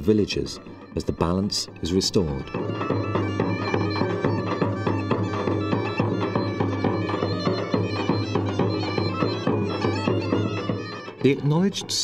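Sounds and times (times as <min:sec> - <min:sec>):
bagpipe folk melody with drone: 0:00.0 - 0:12.0.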